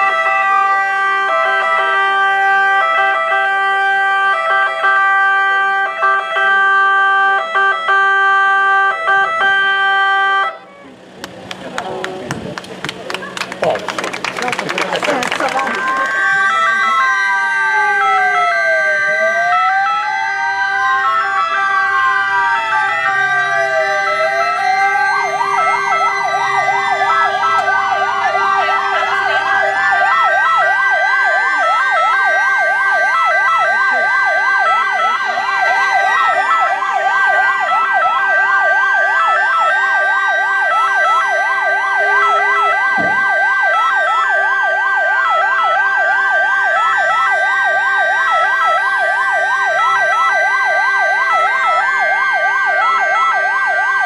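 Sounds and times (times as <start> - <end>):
two-tone siren: 0.0 - 10.7, 15.2 - 54.0
siren yelping: 0.0 - 10.9, 15.0 - 54.0
wailing ambulance sirens: 0.0 - 54.0.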